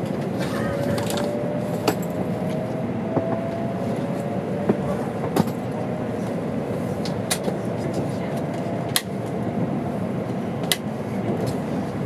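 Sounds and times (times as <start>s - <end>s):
train cabin rumble and hiss: 0.0s - 12.0s.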